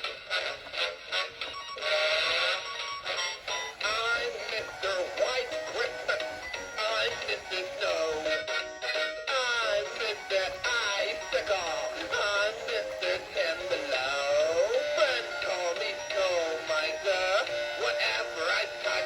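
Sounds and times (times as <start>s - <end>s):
toy speaker song with singing voice: 0.0s - 19.0s.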